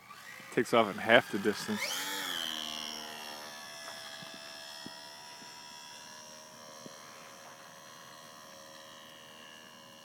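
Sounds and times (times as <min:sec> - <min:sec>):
model plane motor whine: 0:00.0 - 0:10.0.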